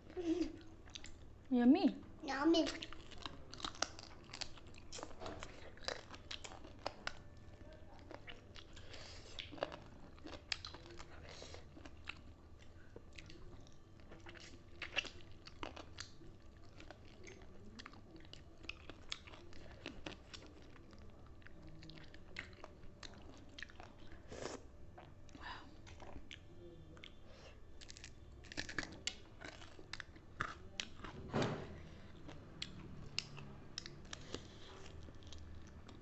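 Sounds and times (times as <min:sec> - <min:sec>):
chewing and crunching food: 0:00.0 - 0:01.5, 0:02.5 - 0:36.0.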